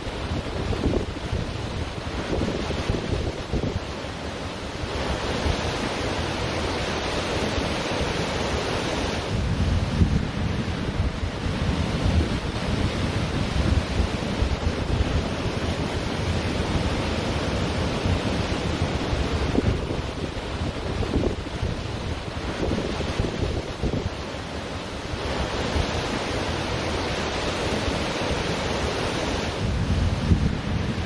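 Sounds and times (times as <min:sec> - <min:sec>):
wind buffeting microphone: 0:00.0 - 0:04.0, 0:09.0 - 0:31.0
ocean surf washing on beach: 0:00.0 - 0:31.0.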